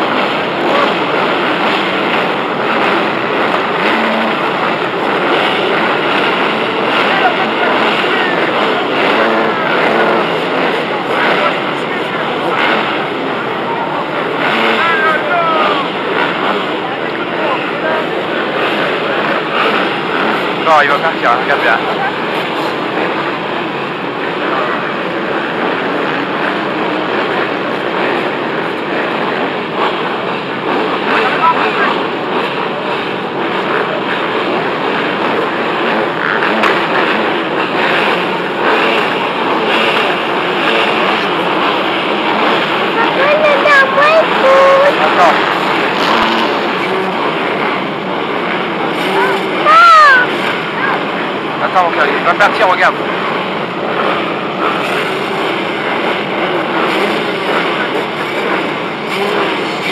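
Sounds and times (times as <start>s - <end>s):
many motorcycle engines running: 0.0s - 59.9s.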